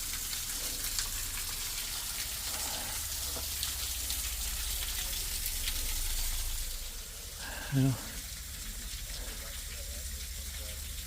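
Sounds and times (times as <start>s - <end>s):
water drips: 0.0s - 11.0s.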